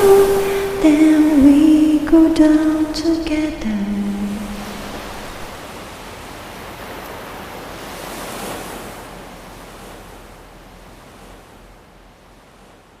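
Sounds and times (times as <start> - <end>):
ocean waves breaking: 0.0 - 12.9.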